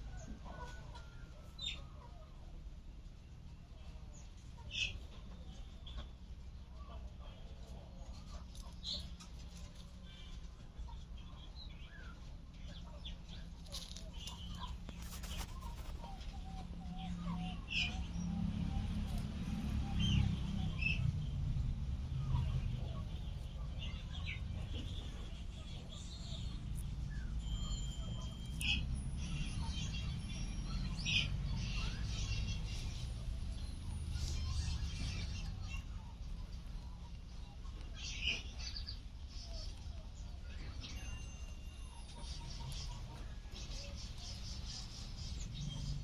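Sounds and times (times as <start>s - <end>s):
low steady rumble: 0.0s - 46.0s
bird chirping: 8.2s - 46.0s.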